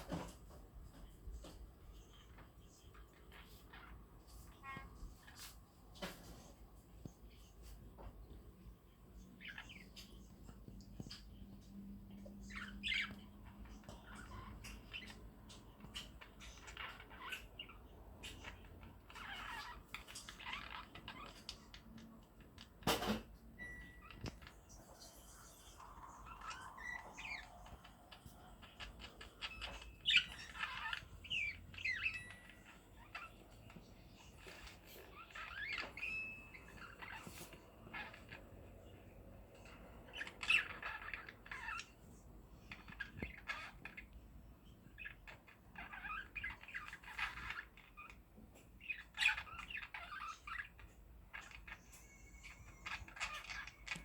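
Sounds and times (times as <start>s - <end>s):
budgerigars chirping and warbling: 9.4s - 54.0s.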